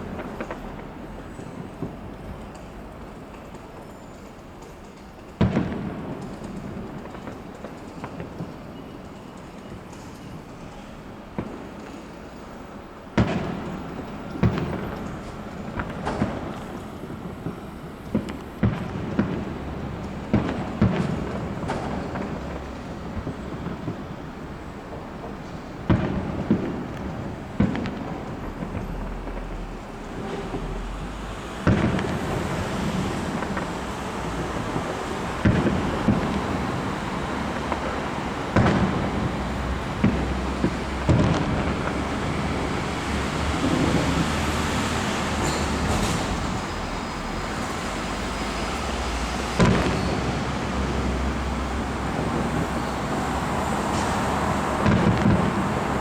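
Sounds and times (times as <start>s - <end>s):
firework shells booming: 0.0s - 56.0s
fireworks rumble and crackle: 0.0s - 56.0s.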